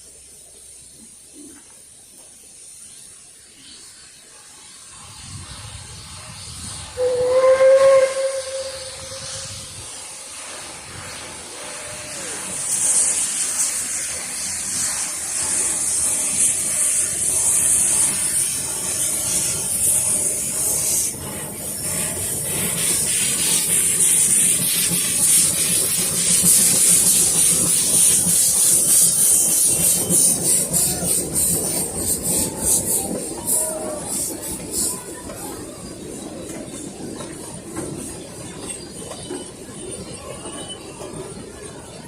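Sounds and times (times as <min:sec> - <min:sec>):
low train rumble: 0:00.0 - 0:42.0
steam hissing: 0:00.0 - 0:42.0
steam locomotive puffs: 0:00.0 - 0:42.0.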